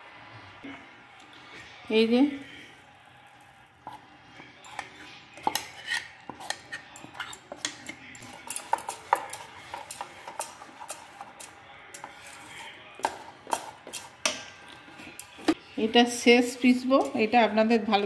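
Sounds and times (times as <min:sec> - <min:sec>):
metal spoon stirring in metal bowl: 0:00.7 - 0:18.0.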